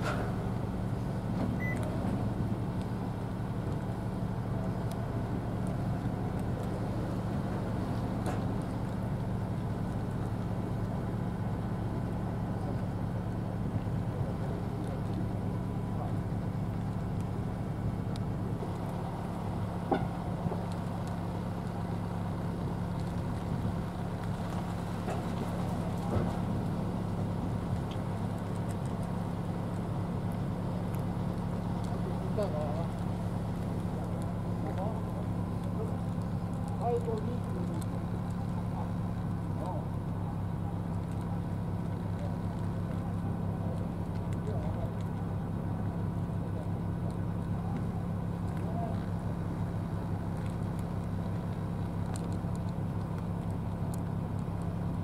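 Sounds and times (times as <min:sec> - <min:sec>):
low machine hum: 0:00.0 - 0:55.0
low rumble: 0:00.0 - 0:55.0.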